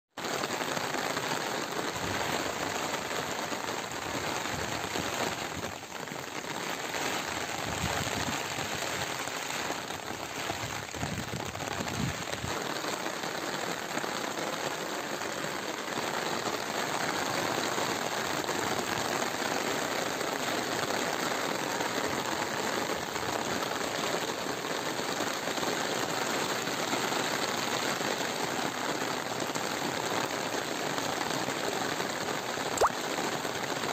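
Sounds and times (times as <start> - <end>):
rain on concrete and pots: 0.1 - 33.9.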